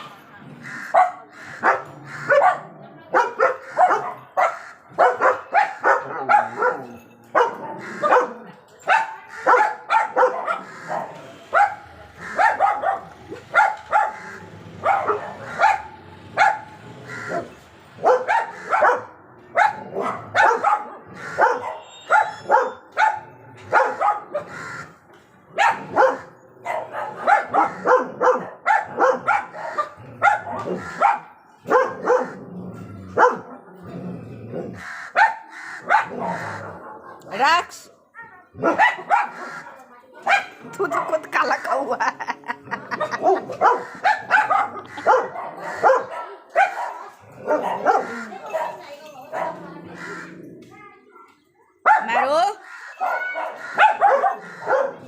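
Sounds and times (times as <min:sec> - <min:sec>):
dogs barking: 0:00.0 - 0:50.7, 0:51.6 - 0:55.0.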